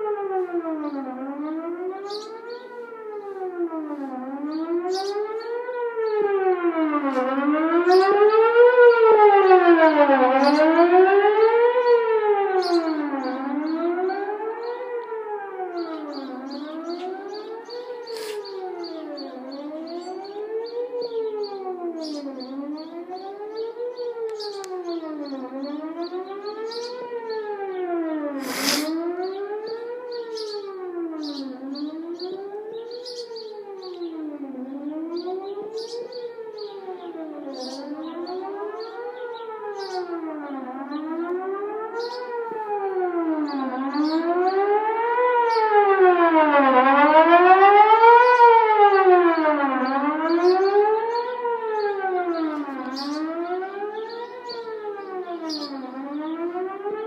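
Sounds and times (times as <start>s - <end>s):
wailing warning siren: 0.0s - 57.0s.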